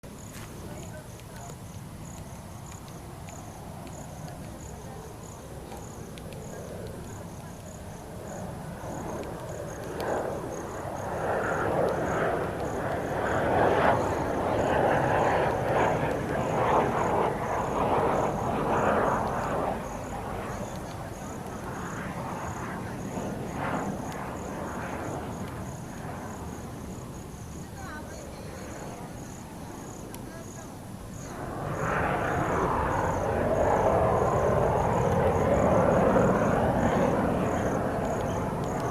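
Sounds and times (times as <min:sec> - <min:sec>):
high insect chirping: 0:00.1 - 0:38.9.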